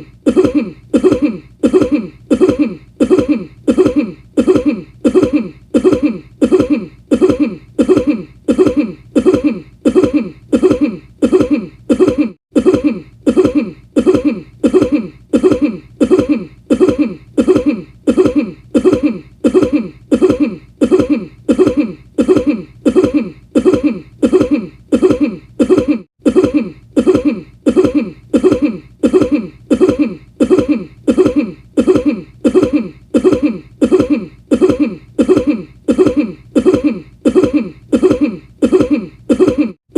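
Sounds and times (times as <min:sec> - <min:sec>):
person coughing: 0:00.0 - 0:39.8.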